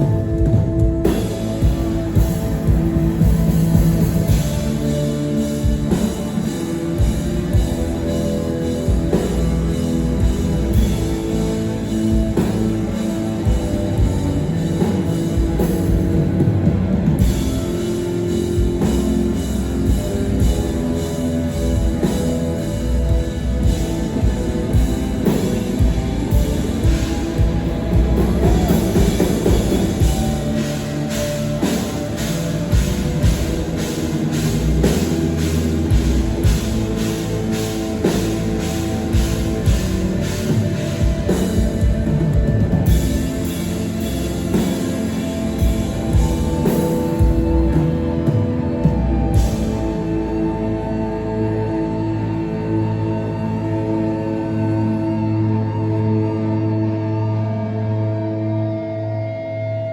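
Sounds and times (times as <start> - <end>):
drums beating: 0.0 - 50.4
rock band playing: 0.0 - 59.9.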